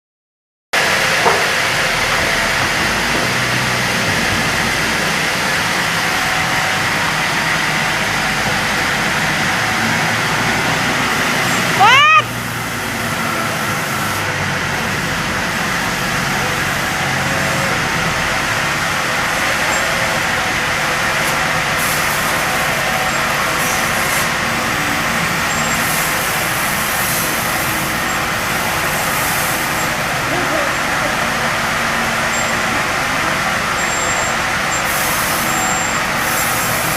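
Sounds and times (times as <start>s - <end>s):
heavy engine running: 0.8s - 36.9s.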